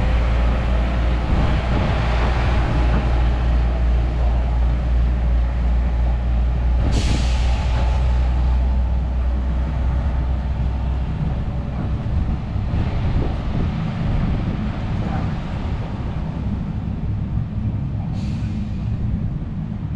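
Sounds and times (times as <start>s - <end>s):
train rumbling: 0.0s - 19.9s.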